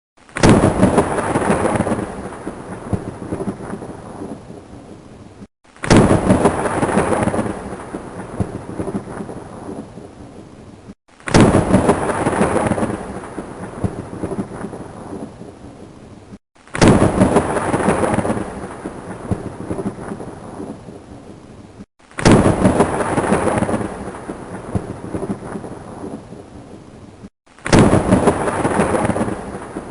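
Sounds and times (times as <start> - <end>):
rain: 0.2 - 29.9
thunder crack and rumble: 0.4 - 5.2, 5.8 - 10.5, 11.3 - 16.0, 16.7 - 21.4, 22.2 - 29.9.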